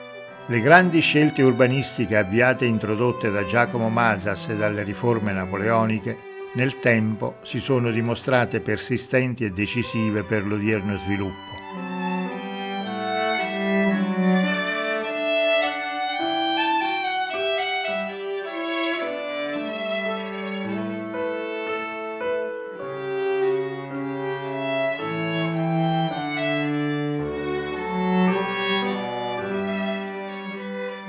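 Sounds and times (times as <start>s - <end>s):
violin and cello playing: 0.0s - 31.0s.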